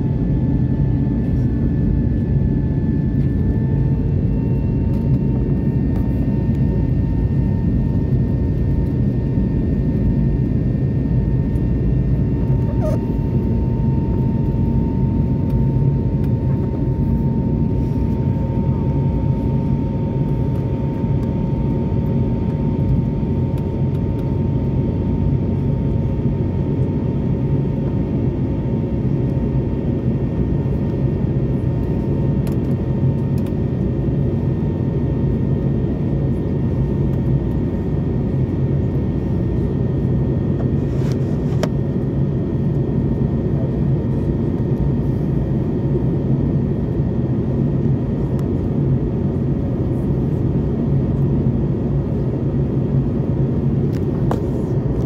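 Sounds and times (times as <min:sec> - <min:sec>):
airliner cabin engine rumble: 0:00.0 - 0:55.0
faint steady whine: 0:00.0 - 0:55.0.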